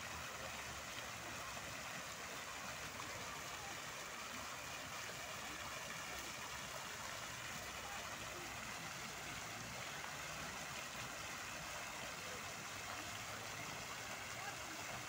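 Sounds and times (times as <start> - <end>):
fountain jets splashing into pool: 0.0 - 15.0.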